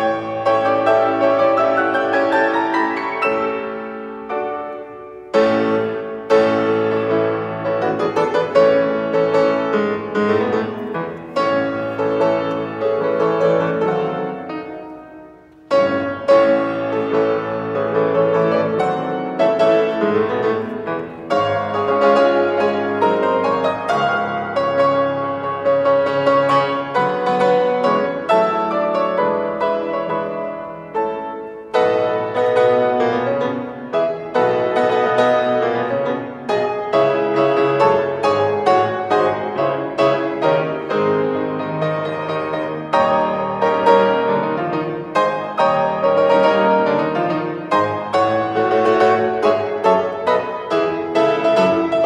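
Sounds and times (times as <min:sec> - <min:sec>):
grand piano playing: 0:00.0 - 0:52.0.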